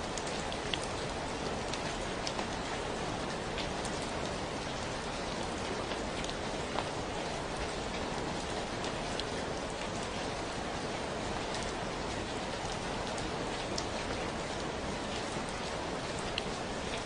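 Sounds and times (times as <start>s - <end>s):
raindrops ticking on surfaces: 0.0s - 17.0s
steady rain hiss: 0.0s - 17.0s.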